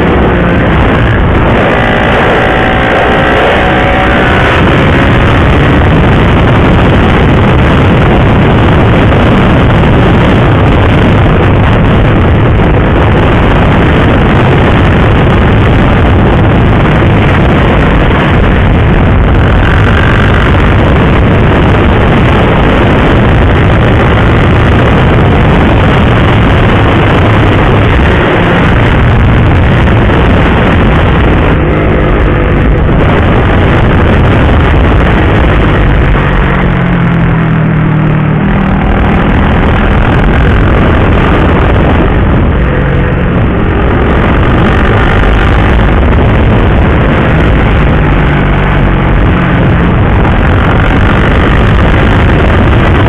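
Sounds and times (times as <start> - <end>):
motorcycle engine running: 0.0 - 53.0
wind rushing over microphone: 0.0 - 53.0.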